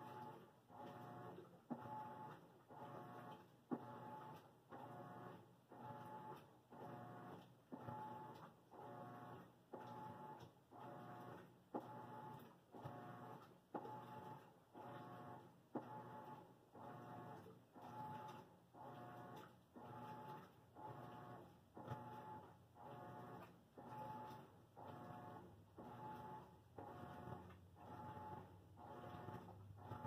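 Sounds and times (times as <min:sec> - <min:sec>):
machine motor pulsing: 0:00.0 - 0:30.0.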